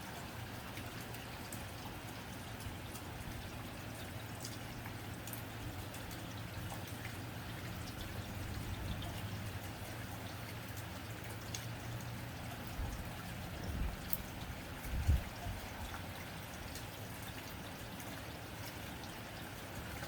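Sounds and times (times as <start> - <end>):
rain on a tin roof: 0.0 - 20.0
sharp drip ticks: 0.1 - 20.0.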